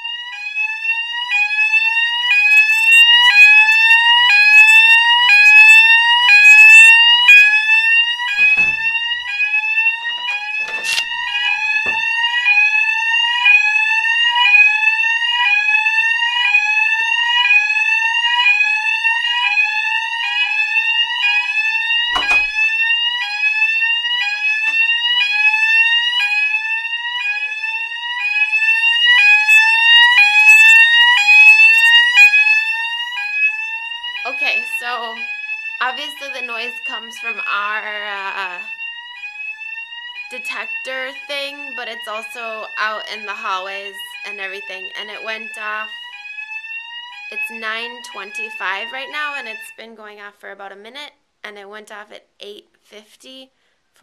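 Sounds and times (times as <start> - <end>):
fire alarm sweeping tone: 0.0 - 50.8.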